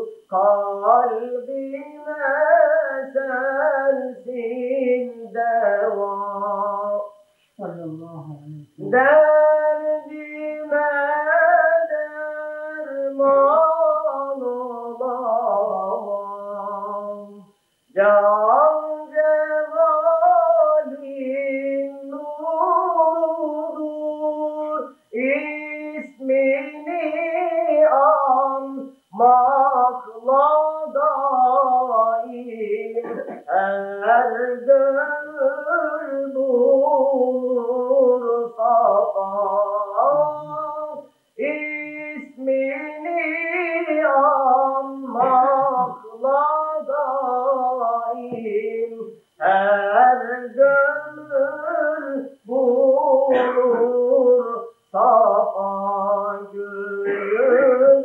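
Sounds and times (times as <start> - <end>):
person chanting: 0.0 - 58.0.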